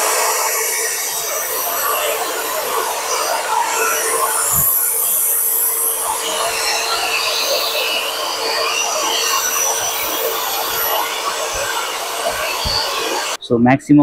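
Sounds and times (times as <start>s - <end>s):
drill motor whining: 0.0s - 13.4s.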